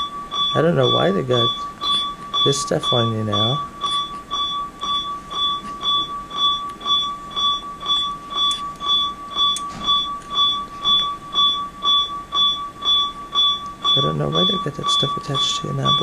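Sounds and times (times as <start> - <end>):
patient monitor beeping: 0.0 - 16.0.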